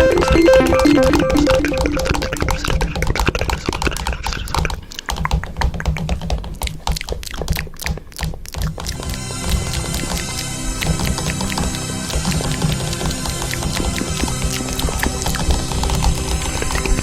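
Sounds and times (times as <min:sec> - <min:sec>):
rapid tapping clicks: 0:00.0 - 0:17.0.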